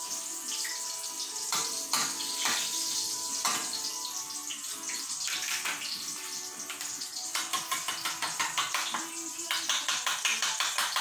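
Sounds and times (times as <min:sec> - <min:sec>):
oil sizzling in a frying pan: 0:00.0 - 0:11.0.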